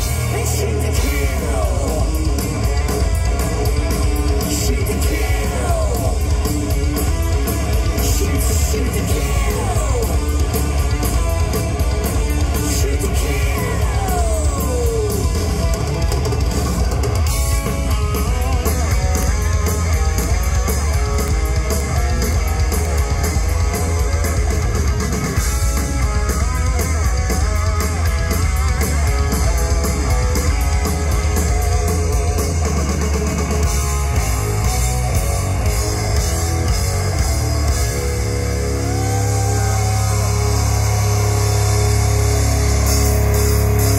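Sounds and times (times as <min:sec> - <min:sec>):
heavy metal band playing live: 0:00.0 - 0:43.9.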